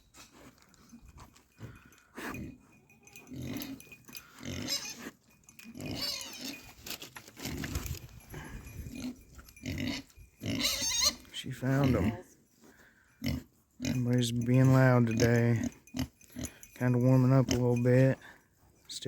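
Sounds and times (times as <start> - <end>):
farm animals grunting: 0.8 - 6.7, 7.3 - 12.3, 12.9 - 18.4.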